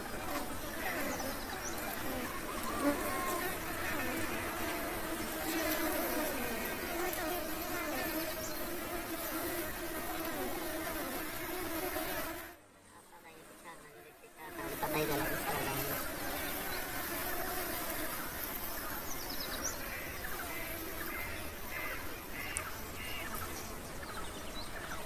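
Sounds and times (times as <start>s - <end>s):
honey bees buzzing: 0.0s - 24.1s.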